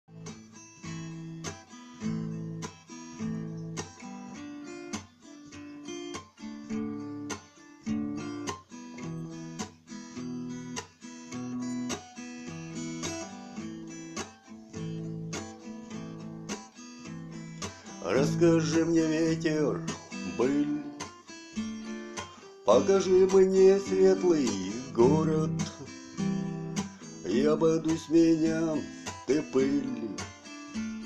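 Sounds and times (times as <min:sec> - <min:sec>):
acoustic guitar strumming chords: 0:00.1 - 0:31.0.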